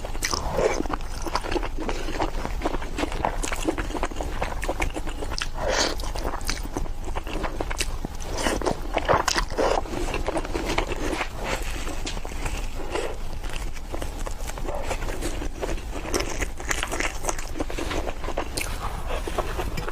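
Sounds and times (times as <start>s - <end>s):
person chewing noodles: 0.0s - 19.9s.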